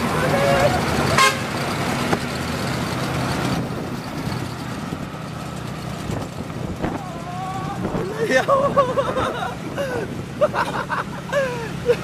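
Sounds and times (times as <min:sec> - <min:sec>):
road and wind noise hiss: 0:00.0 - 0:12.0
truck engine running: 0:00.0 - 0:12.0.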